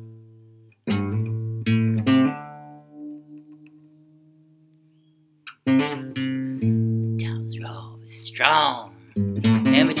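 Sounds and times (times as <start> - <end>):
background music notes: 0.0 - 10.0.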